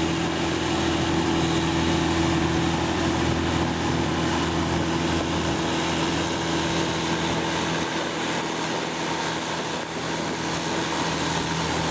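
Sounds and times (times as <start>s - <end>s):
boat engine droning: 0.0s - 11.9s.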